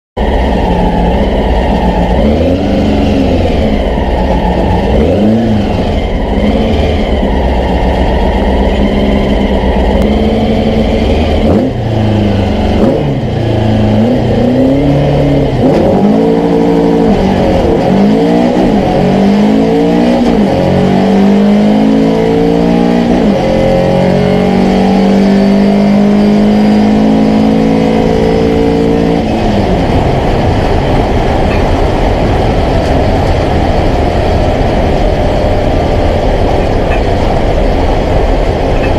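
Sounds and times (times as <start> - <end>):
car engine revving and accelerating: 0.2 - 38.9.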